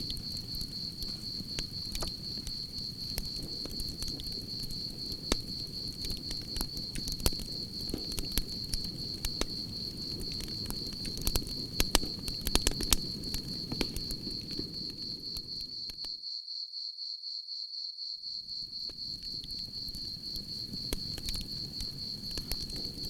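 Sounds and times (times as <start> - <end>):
campfire crackling and popping: 0.0 - 16.1, 18.9 - 23.0
crickets chirping: 0.0 - 23.0.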